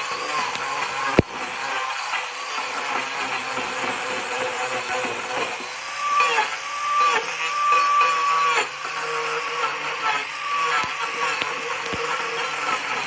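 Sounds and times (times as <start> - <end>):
angle grinder grinding wood: 0.0 - 13.0.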